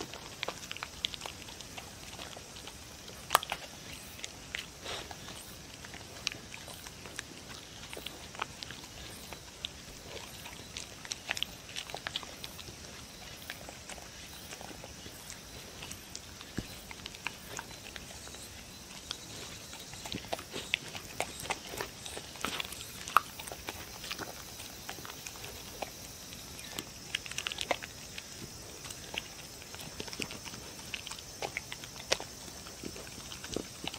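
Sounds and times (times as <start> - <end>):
dog licking and chewing: 0.0 - 33.9.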